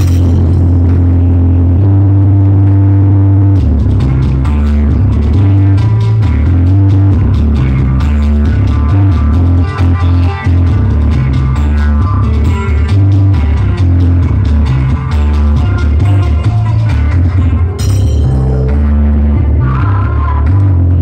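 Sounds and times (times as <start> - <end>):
percussion beat: 0.0 - 1.6, 3.6 - 21.0
higher melody: 0.0 - 19.7
heavy bass line: 0.0 - 21.0.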